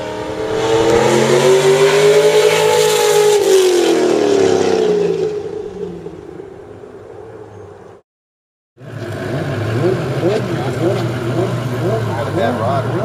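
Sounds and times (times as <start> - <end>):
sports car passing at high speed: 0.0 - 7.8, 8.8 - 13.0.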